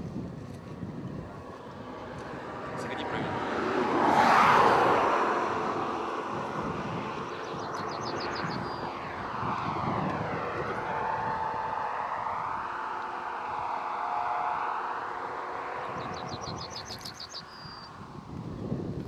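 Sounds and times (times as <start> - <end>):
passing vehicle whoosh: 0.0 - 19.0
steady road noise: 0.0 - 19.0.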